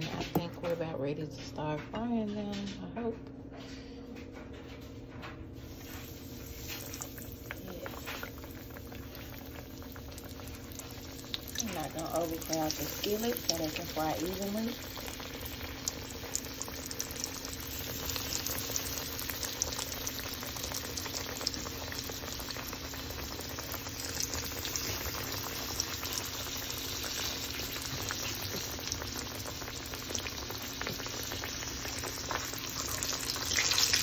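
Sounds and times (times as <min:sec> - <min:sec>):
food frying in hot oil: 0:05.6 - 0:34.0.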